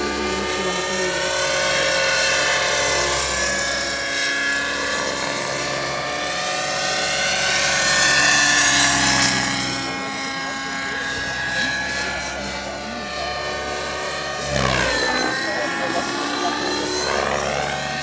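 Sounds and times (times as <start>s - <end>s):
model helicopter rotor whine: 0.0s - 18.0s.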